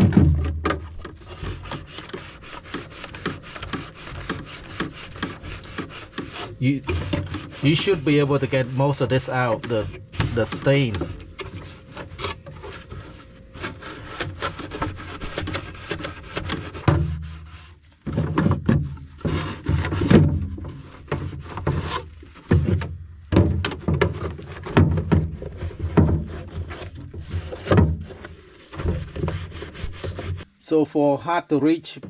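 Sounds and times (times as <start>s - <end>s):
scrubbing plastic bucket: 0.0s - 30.5s.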